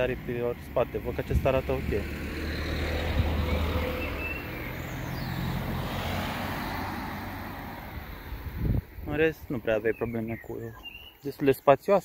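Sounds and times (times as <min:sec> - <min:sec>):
vehicle engine humming: 0:00.0 - 0:10.9
road noise: 0:00.0 - 0:12.0.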